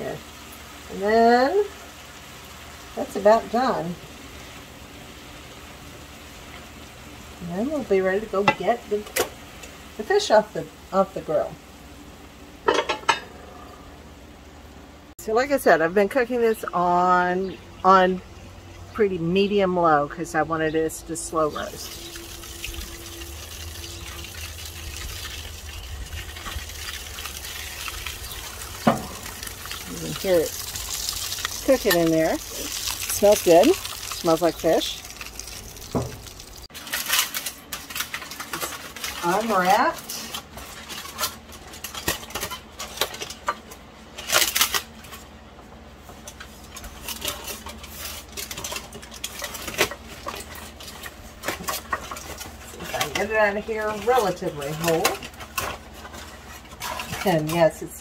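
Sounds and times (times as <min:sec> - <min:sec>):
fish sizzling in foil: 0:00.0 - 0:12.9, 0:21.2 - 0:45.3, 0:46.2 - 0:58.0.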